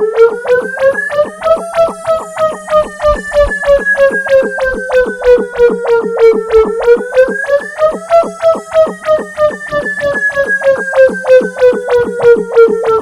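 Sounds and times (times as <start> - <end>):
siren wail electronic music: 0.0 - 13.0
clicking beat: 0.3 - 13.0.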